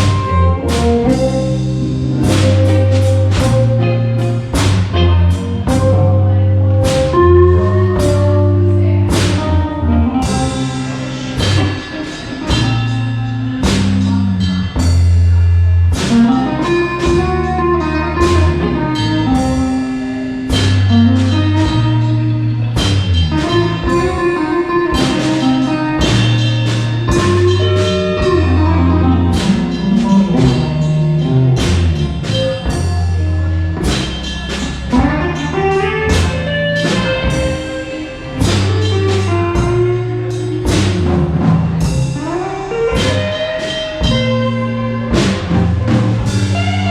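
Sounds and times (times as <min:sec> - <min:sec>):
bending lead guitar line: 0:00.0 - 0:46.9
drum kit on a slow beat: 0:00.0 - 0:46.9
electric bass: 0:00.0 - 0:46.9.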